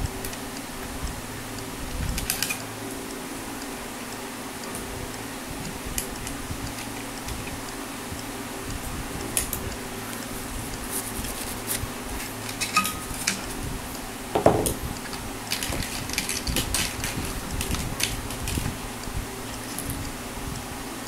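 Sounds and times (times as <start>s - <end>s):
electric fan hum: 0.0s - 21.0s.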